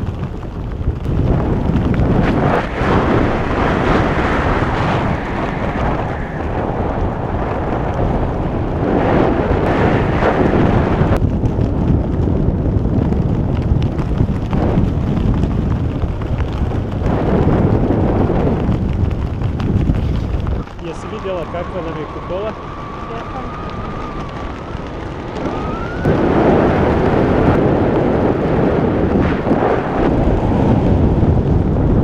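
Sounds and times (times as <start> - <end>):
wind rumbling over microphone: 0.0 - 32.0.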